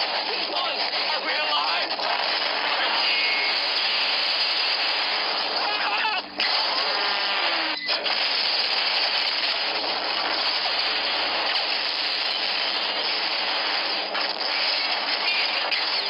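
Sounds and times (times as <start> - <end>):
debris crashing: 0.0 - 16.0
explosions roaring: 0.0 - 16.0.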